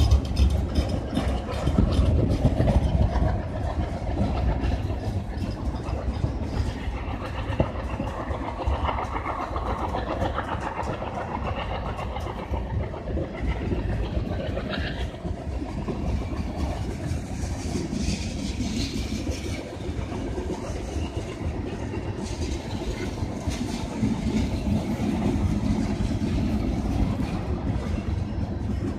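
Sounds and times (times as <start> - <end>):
train clicks: 0.0 - 28.9
train wheels rumbling on rail: 0.0 - 28.9.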